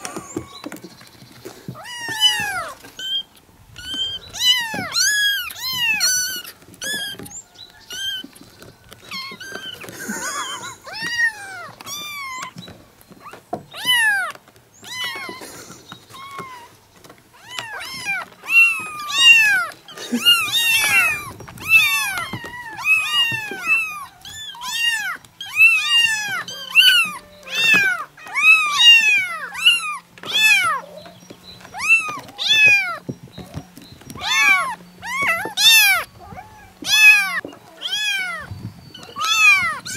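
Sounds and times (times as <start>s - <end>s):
kittens meowing: 0.0s - 0.8s, 1.6s - 39.9s.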